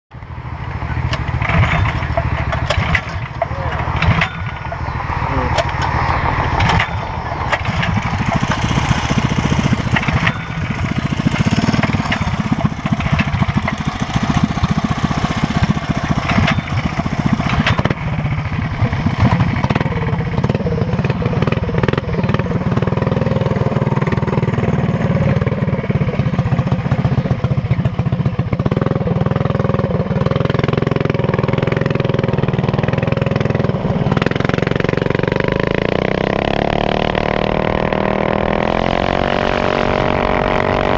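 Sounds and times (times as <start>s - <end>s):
minibike engine running under load: 0.2s - 40.9s.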